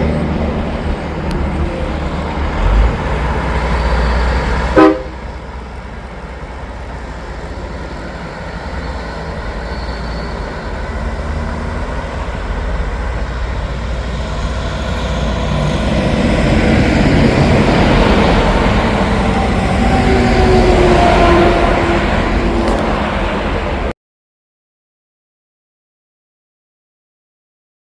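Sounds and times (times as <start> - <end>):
semi truck diesel engine passing: 0.0 - 23.9.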